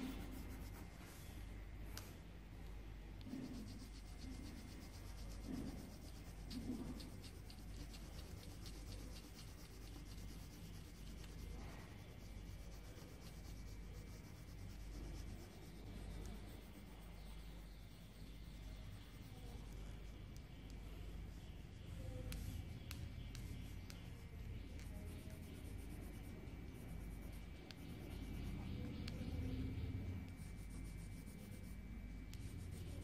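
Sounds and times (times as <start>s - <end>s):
scratching on paper: 0.0s - 2.2s, 3.2s - 33.0s
faint low hum: 0.0s - 33.0s.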